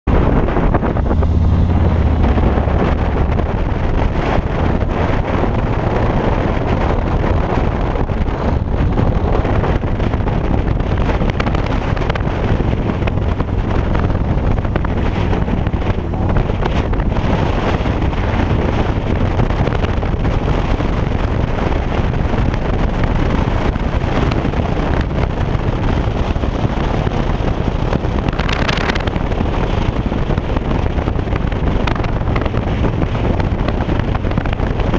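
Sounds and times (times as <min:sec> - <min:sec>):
wind buffeting microphone: 0:00.0 - 0:34.9
motorcycle engine running: 0:00.1 - 0:34.9.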